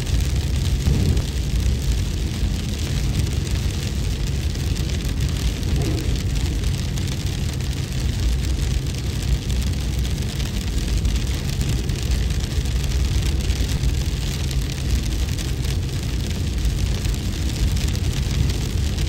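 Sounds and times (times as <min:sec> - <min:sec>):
wind rumble: 0:00.0 - 0:19.0.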